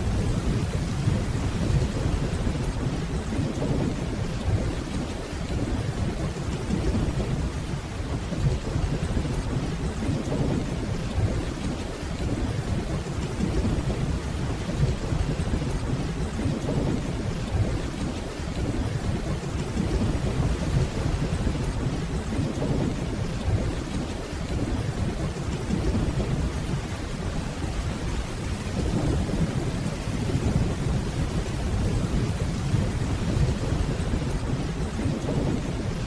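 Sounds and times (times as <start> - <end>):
distant thunder rumble: 0.0 - 36.0
steady rainfall: 0.0 - 36.0.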